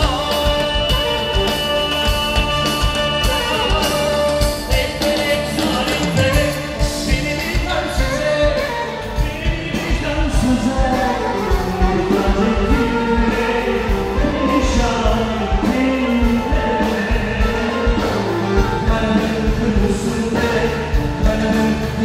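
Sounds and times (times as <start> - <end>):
band with drum beat: 0.0 - 22.0
man singing into microphone: 0.0 - 22.0.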